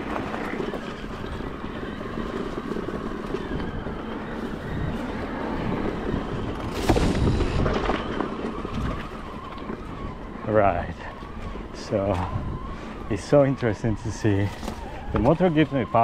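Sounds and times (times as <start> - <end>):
tyres rolling over dirt: 0.0 - 16.0
wind rushing over microphone: 0.0 - 16.0.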